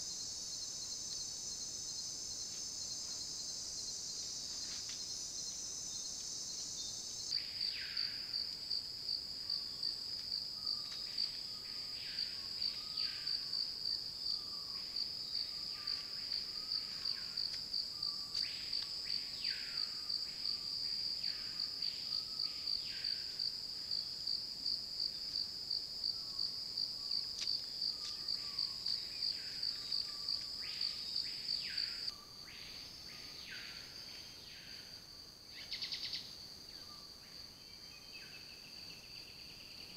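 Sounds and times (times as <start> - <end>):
insects trilling chorus: 0.0 - 39.9.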